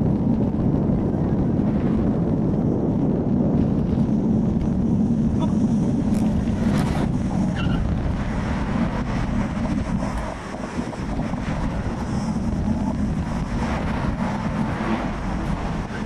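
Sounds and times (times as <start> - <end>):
cars passing: 0.0 - 16.0
wind buffeting microphone: 0.0 - 16.0.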